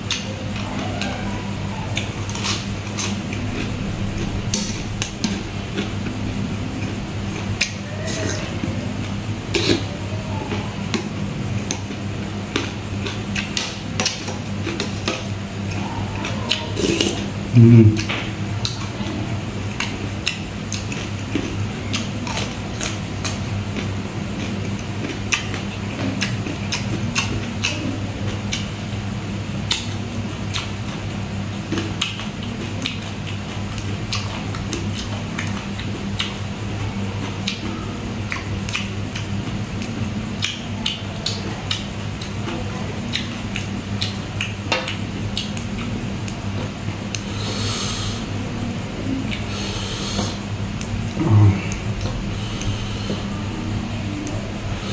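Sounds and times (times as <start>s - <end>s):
chewing: 0.0s - 8.6s, 9.5s - 28.8s, 29.6s - 53.4s
steady low hum: 0.0s - 54.9s.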